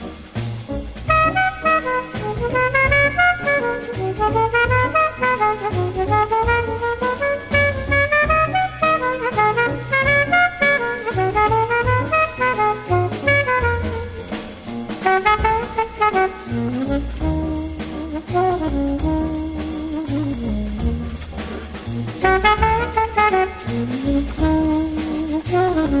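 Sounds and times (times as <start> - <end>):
horn melody: 0.0 - 26.0
walking bass: 0.0 - 26.0.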